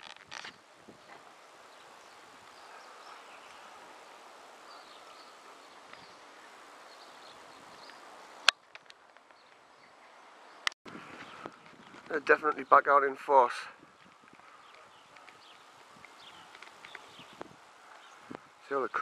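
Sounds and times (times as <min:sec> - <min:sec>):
distant bird chirps: 0:00.4 - 0:12.9, 0:13.8 - 0:19.0.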